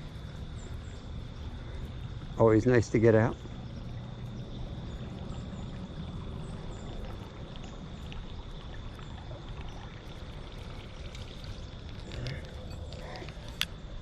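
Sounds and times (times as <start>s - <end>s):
running water: 0.0s - 13.9s.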